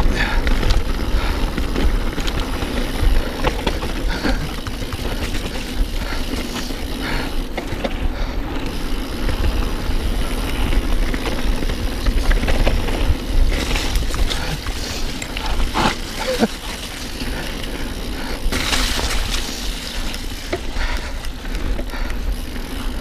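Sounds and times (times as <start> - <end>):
bike chain clicks and rattles: 0.0 - 23.0
bike tyres rumbling on dirt: 0.0 - 23.0.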